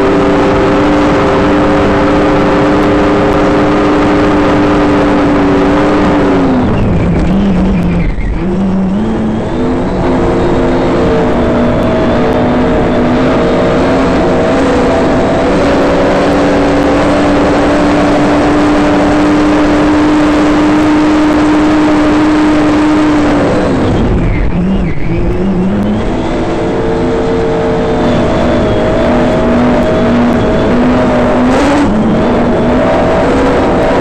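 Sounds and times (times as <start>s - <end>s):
race boat engine at high revs: 0.0s - 34.0s.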